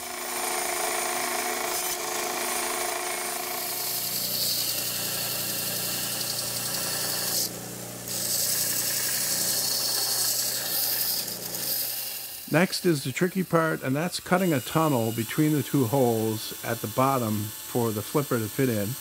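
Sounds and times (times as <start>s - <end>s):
bandsaw cutting wood: 0.0s - 19.0s.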